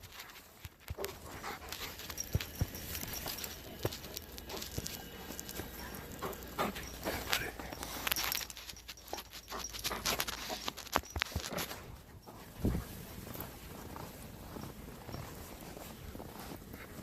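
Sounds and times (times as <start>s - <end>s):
footsteps in snow: 0.0s - 17.0s
dog panting: 0.1s - 17.0s.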